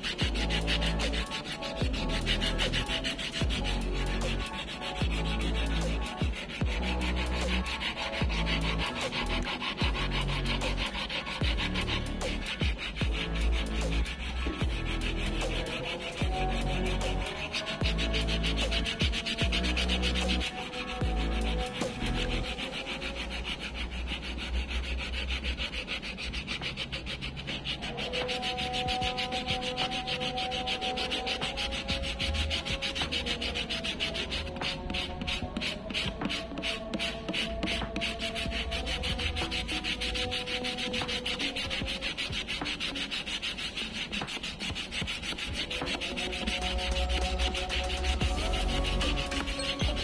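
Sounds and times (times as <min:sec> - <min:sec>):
sandpaper rubbing on wood: 0:00.0 - 0:50.0.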